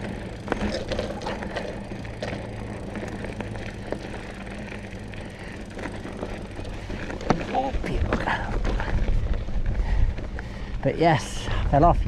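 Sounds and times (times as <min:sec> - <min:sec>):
bike rattling over bumps: 0:00.0 - 0:12.0
bike tyres rumbling on dirt: 0:00.0 - 0:12.0.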